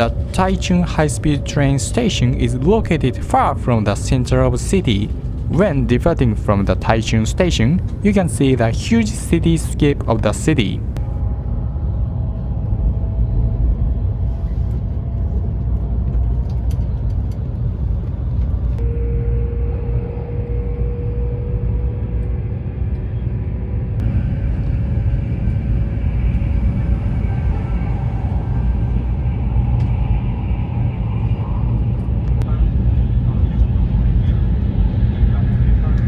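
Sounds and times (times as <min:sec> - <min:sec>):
train low rumble: 0:00.0 - 0:36.0.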